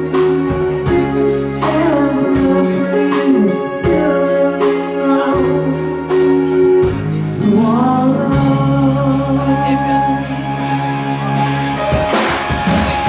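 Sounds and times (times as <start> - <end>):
drums: 0.0 - 13.0
electric bass: 0.0 - 13.0
sustained melody line: 0.0 - 13.0.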